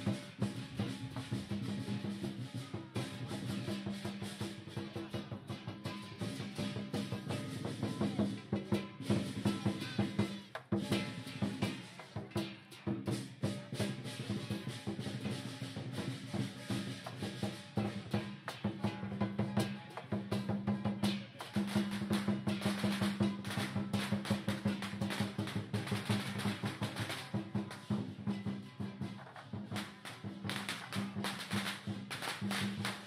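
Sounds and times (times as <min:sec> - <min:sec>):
cymbals clashing: 0:00.0 - 0:33.0
drum beating fast rhythm: 0:00.0 - 0:33.0.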